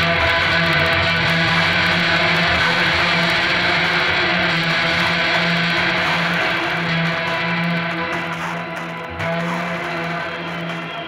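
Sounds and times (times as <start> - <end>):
instrumental guitar music: 0.0 - 11.0.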